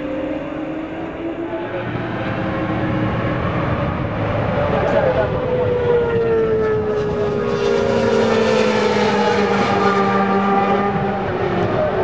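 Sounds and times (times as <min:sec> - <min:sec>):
racing motorcycles at high revs: 0:00.0 - 0:12.0.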